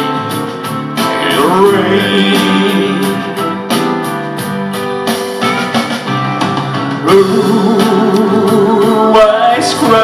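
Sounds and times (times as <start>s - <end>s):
slow country ballad music: 0.0s - 10.0s
steady drum beat: 0.0s - 10.0s.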